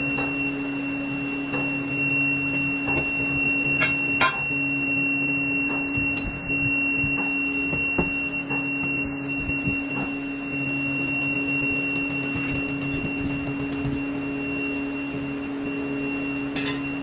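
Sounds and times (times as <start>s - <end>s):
machine hum with high whine: 0.0s - 17.0s.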